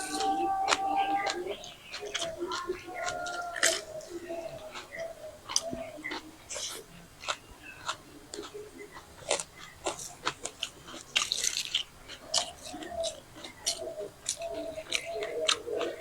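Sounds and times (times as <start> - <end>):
people chewing crunchy food: 0.0 - 16.0.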